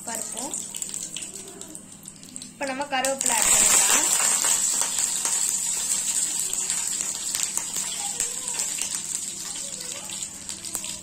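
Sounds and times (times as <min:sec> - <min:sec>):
leaves sizzling in hot oil: 0:00.0 - 0:01.4, 0:02.1 - 0:11.0.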